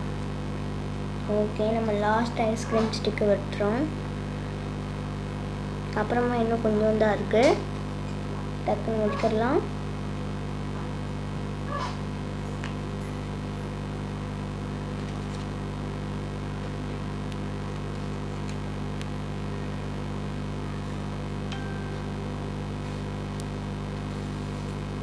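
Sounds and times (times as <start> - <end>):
electrical hum with hiss: 0.0 - 25.0.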